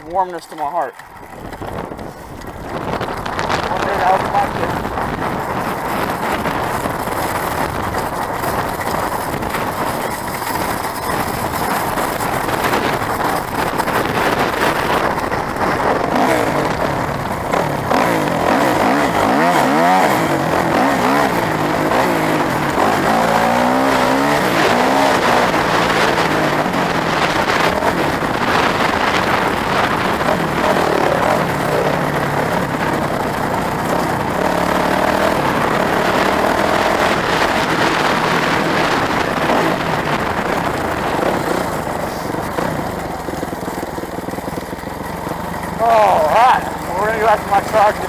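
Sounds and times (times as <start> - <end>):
dirt bike engines running: 0.0 - 48.0
engine revving: 0.0 - 48.0
steady rushing noise: 0.0 - 48.0.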